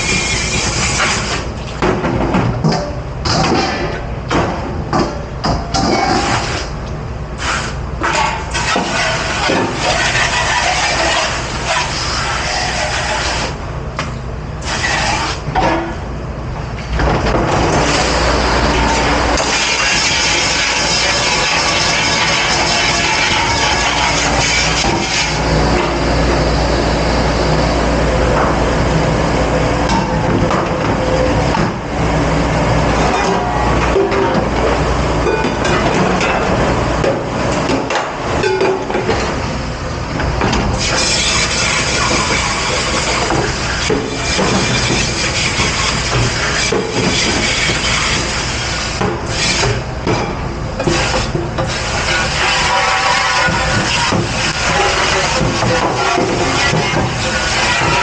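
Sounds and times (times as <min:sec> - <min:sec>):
water spraying and dish machine: 0:00.0 - 0:04.0, 0:05.0 - 0:16.0, 0:16.8 - 0:58.0.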